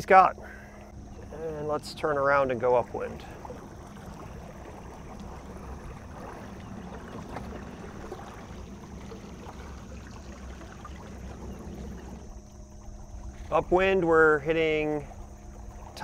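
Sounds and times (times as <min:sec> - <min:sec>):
steady low motor hum: 0:00.0 - 0:16.0
water lapping and swirling: 0:00.0 - 0:16.0.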